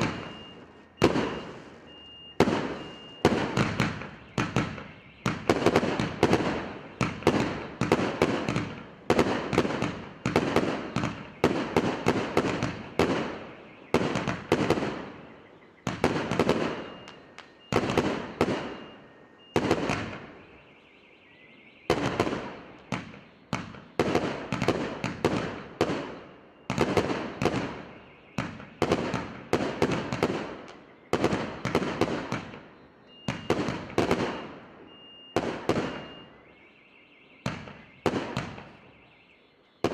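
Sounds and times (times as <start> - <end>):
fireworks battery firing: 0.0 - 20.7, 21.8 - 36.4, 37.4 - 39.1.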